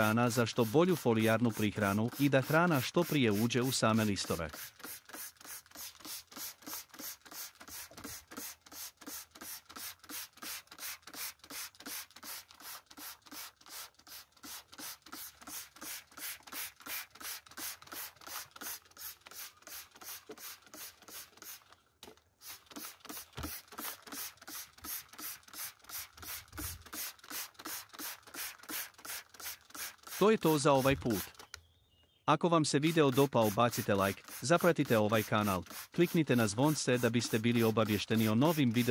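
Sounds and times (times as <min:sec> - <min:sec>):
spray bottle hisses: 0:00.2 - 0:21.7, 0:22.4 - 0:31.4, 0:32.8 - 0:38.9.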